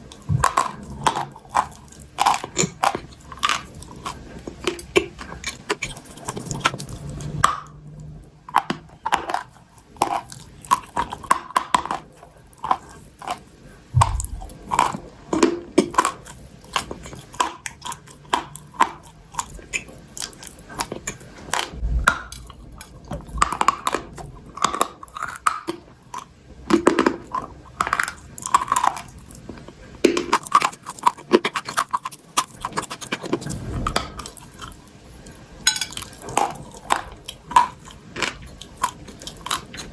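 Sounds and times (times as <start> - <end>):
chewing and crunching chalk: 0.0 - 39.9.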